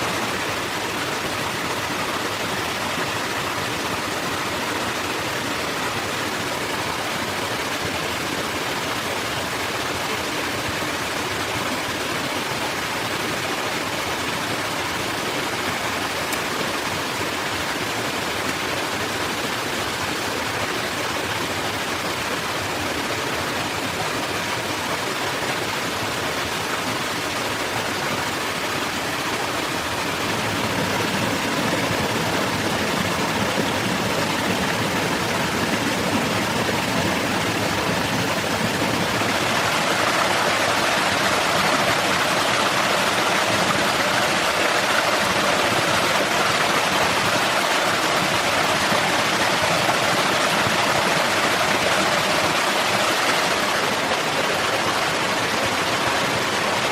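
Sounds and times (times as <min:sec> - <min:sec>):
flowing water rushing: 0:00.0 - 0:56.9.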